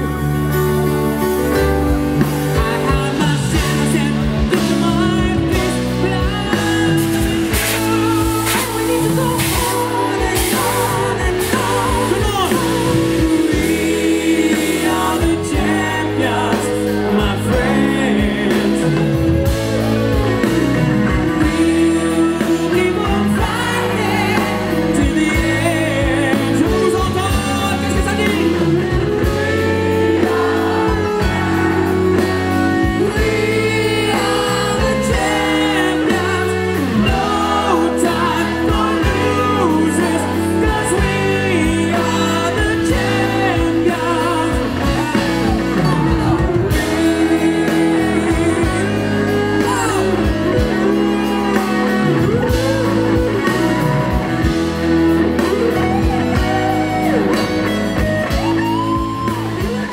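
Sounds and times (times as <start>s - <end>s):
person singing: 0.0s - 59.9s
steady bass and chords: 0.0s - 59.9s.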